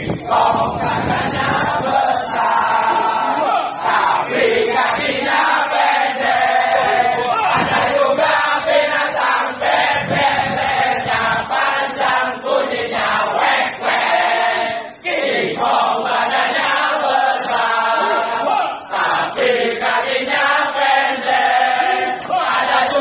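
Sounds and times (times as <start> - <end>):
crowd singing in unison: 0.0 - 23.0.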